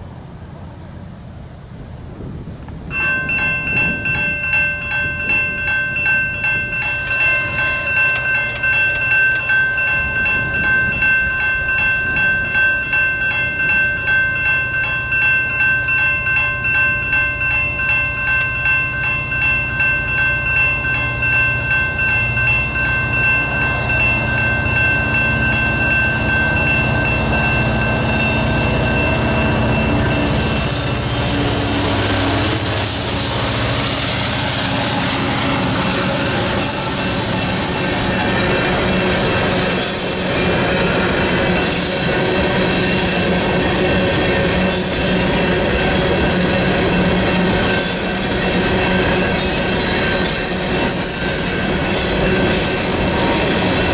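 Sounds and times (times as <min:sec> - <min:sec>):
diesel locomotive rumble: 0:00.0 - 0:53.9
railroad crossing bell ringing: 0:02.9 - 0:53.9.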